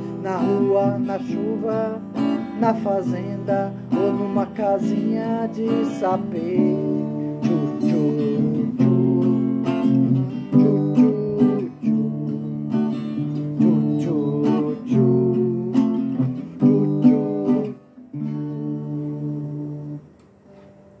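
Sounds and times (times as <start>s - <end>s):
acoustic guitar strumming: 0.0s - 20.7s.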